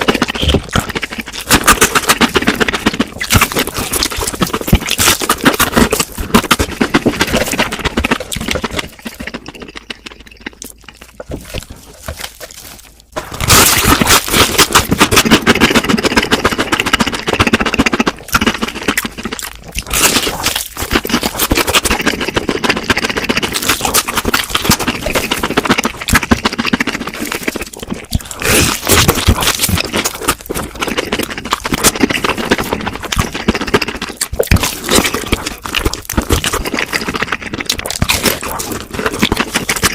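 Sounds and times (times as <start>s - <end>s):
crunching crispy food: 0.0s - 39.9s.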